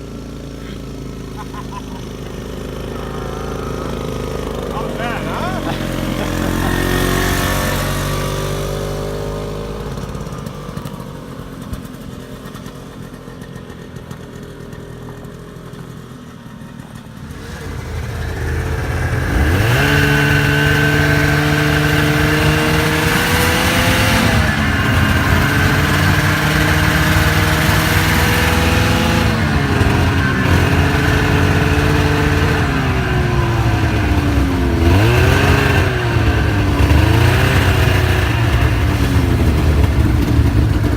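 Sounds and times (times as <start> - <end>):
snowmobile engine revving: 0.0 - 12.8, 17.0 - 40.9
snowmobile engines: 0.0 - 40.9.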